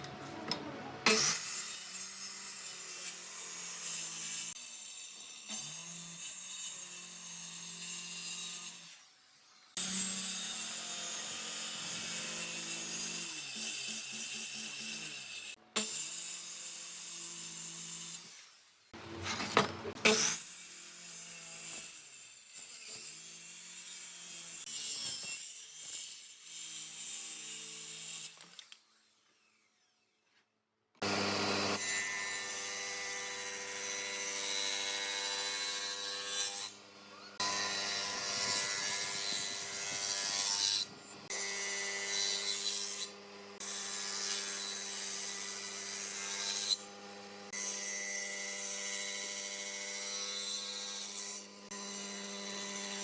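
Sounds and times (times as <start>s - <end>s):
electric power tool on wood: 0.0s - 30.4s, 31.0s - 53.0s.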